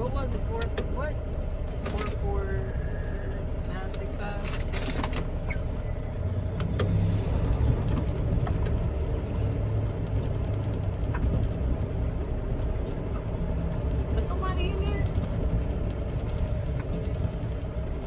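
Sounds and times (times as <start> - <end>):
diesel truck engine rumbling: 0.0 - 18.0.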